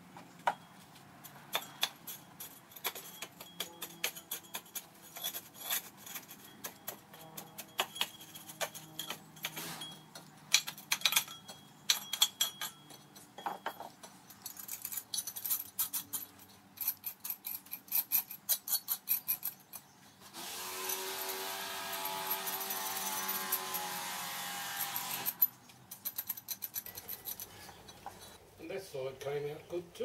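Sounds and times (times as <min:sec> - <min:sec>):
metal casting scraping and clinking: 0:00.5 - 0:20.2, 0:20.8 - 0:28.4.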